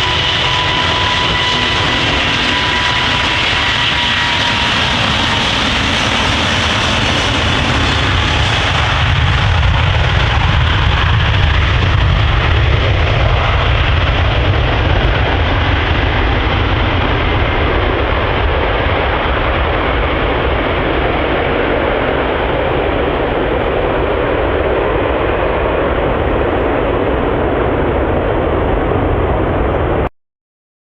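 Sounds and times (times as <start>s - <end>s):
jet airliner landing roar: 0.0s - 30.1s.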